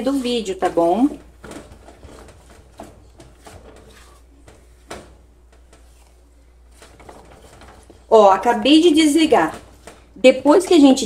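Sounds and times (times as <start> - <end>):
spatula knocking and scraping pot: 0.0 - 11.0.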